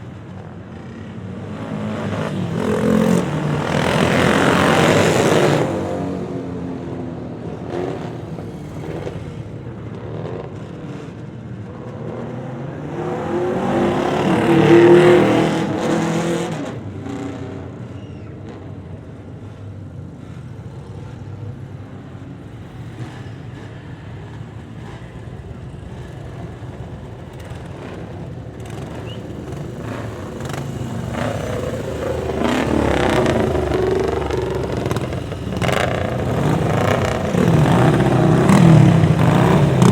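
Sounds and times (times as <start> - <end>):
motorcycles riding past: 0.0 - 39.9.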